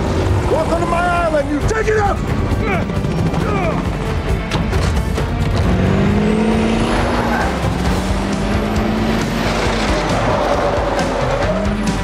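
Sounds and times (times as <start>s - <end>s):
dramatic music score: 0.0s - 12.0s
vehicle engine running: 0.0s - 12.0s.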